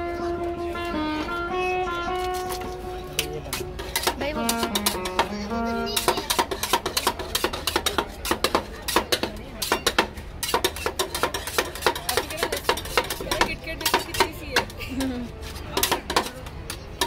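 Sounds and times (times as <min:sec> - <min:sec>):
spatulas scraping steel plate: 0:02.1 - 0:17.0
metal spatulas clacking on steel: 0:03.2 - 0:17.0.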